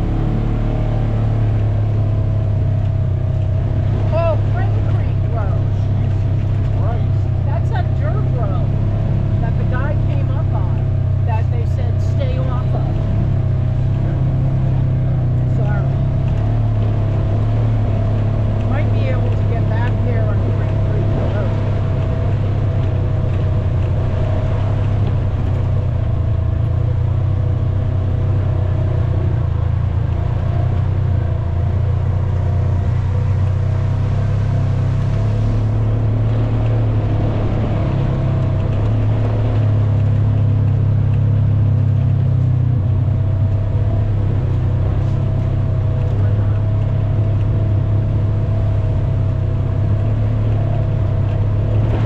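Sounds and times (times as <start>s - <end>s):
atv engine droning: 0.0s - 52.0s.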